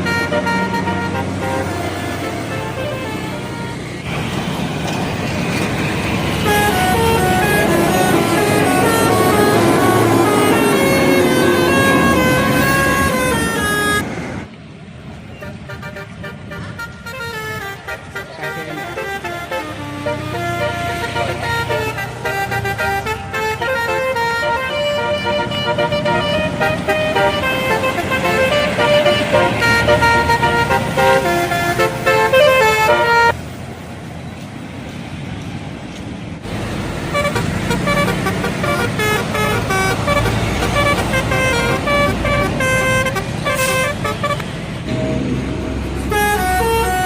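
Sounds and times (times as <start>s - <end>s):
multi-tone air horn melody: 0.0s - 4.0s, 6.3s - 14.2s, 15.4s - 33.4s, 37.1s - 47.0s
traffic noise: 0.0s - 47.0s.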